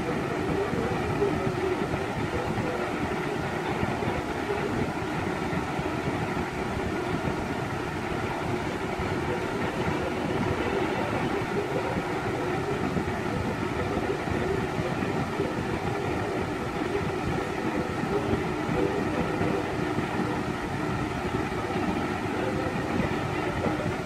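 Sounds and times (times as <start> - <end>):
box fan running: 0.0 - 24.0.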